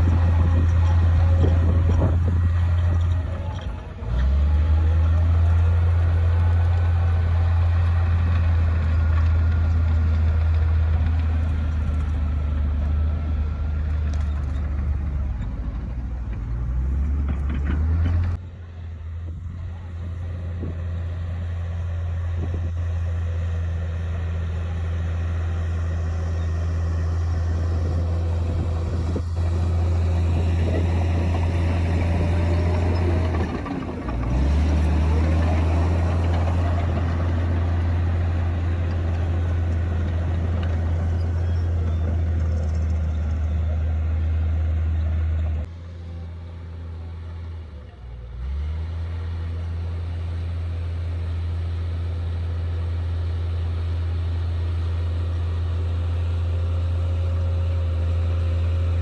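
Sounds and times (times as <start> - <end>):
bulldozer diesel engine drone: 0.0 - 59.0.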